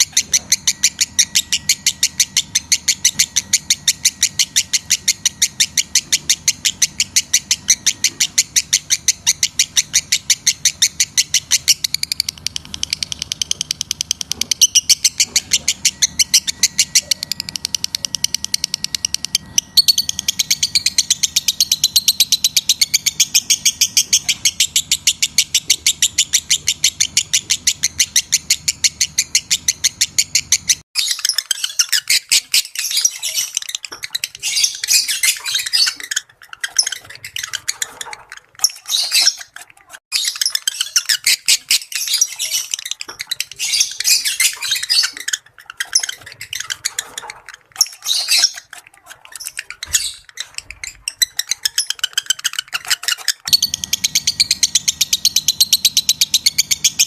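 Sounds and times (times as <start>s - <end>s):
bird chirping rapidly: 0.0s - 57.0s.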